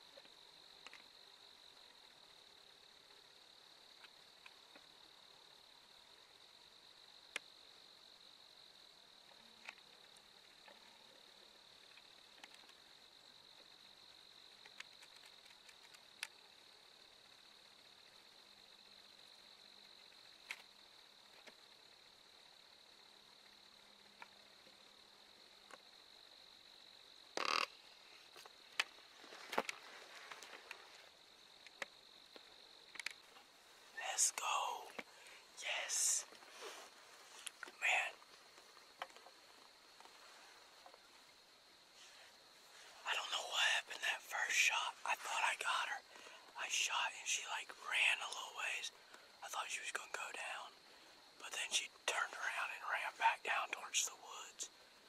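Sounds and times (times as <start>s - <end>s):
high-pitched insect trill: 0.0s - 55.0s.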